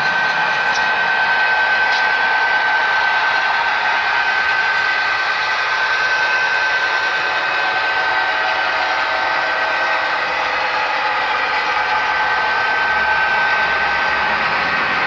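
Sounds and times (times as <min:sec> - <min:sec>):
model train wheels rolling: 0:00.0 - 0:15.0
steady whine: 0:00.0 - 0:15.0.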